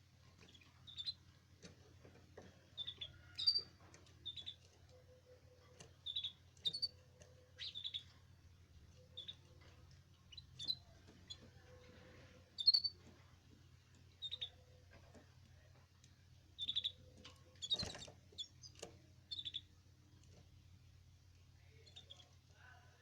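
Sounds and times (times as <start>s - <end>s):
canaries chirping: 0.1s - 23.0s.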